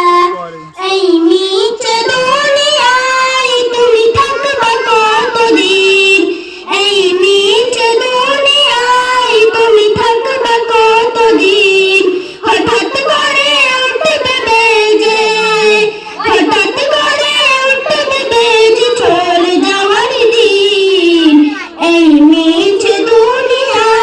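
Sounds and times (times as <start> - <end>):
child singing: 0.0 - 24.0.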